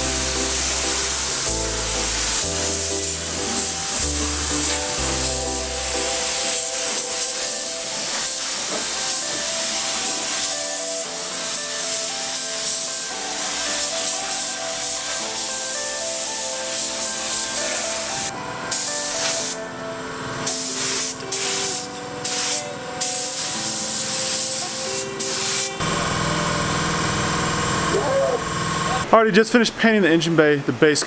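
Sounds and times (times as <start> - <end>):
paint spray gun hissing: 0.0 - 19.7, 20.4 - 27.9.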